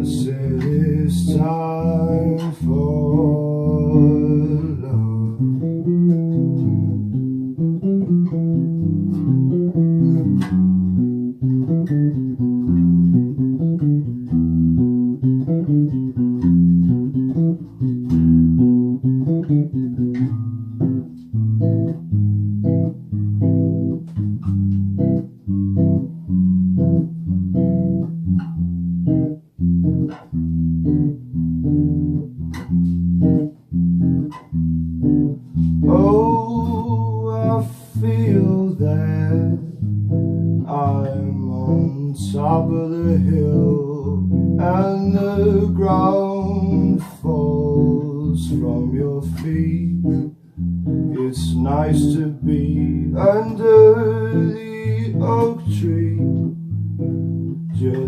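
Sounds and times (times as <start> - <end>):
bass guitar line: 0.0 - 58.0
plucked guitar notes: 0.0 - 58.0.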